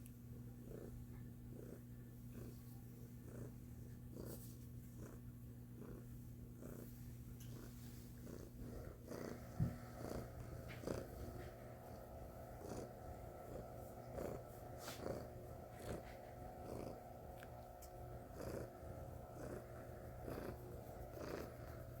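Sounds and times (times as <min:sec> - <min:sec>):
cat purring: 0:00.4 - 0:22.0.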